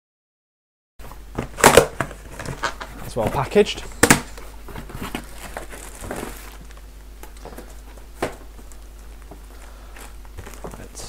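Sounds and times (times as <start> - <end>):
cardboard rustling and crinkling: 1.0 - 11.0.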